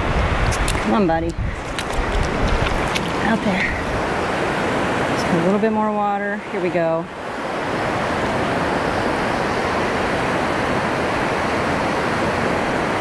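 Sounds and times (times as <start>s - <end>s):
wave washing up sand: 0.0s - 13.0s.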